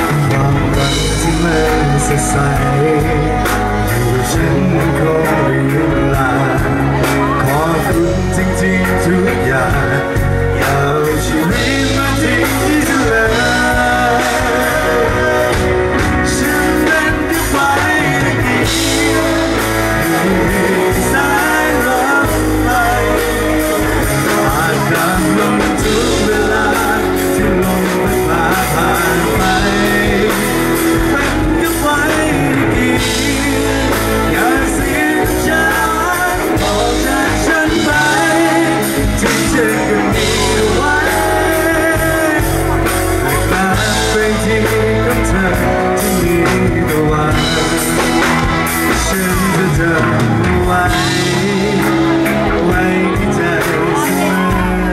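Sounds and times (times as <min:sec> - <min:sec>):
live band with drum kit: 0:00.0 - 0:54.9
man singing through pa system: 0:00.0 - 0:54.9.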